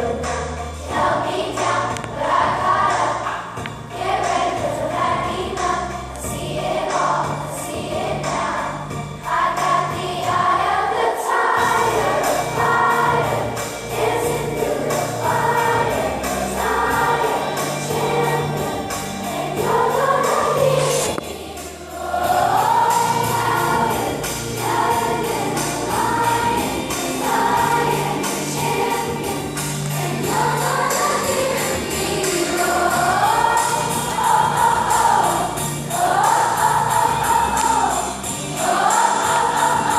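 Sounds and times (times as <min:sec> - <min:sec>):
instrumental accompaniment with beat: 0:00.0 - 0:10.6, 0:11.5 - 0:39.9
children's choir singing: 0:00.0 - 0:39.9.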